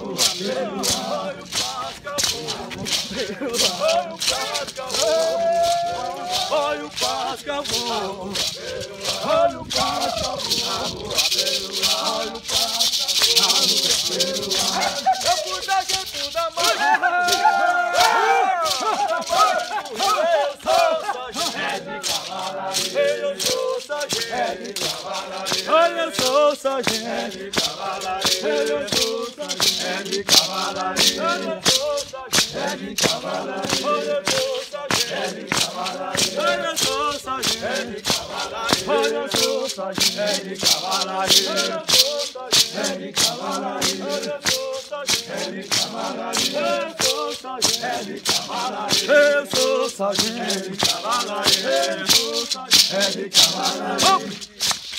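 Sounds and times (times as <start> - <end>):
group of voices chanting: 0.0 - 54.8
maracas shaken in a beat: 0.0 - 54.9.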